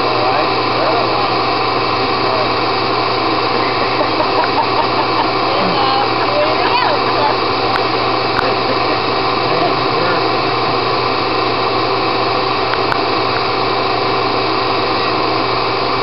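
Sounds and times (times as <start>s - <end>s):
vacuum rushing air and motor whine: 0.0s - 16.0s.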